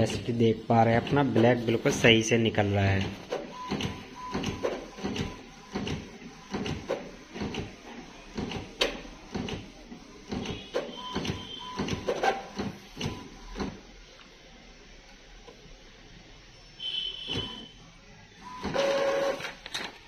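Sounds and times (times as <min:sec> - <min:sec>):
inkjet printer printing: 0:00.0 - 0:13.9, 0:16.8 - 0:17.7, 0:18.4 - 0:20.0.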